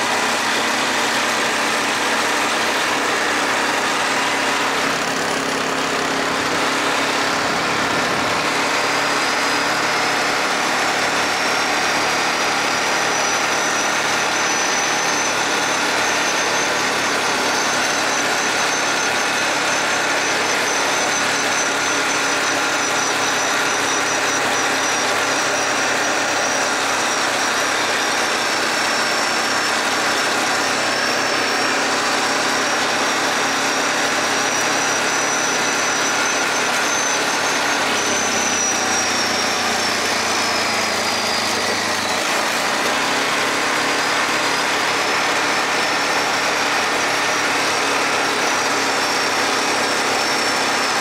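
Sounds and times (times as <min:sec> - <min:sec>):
atv engine running: 0:00.0 - 0:51.0
high-pitched whine: 0:00.0 - 0:51.0.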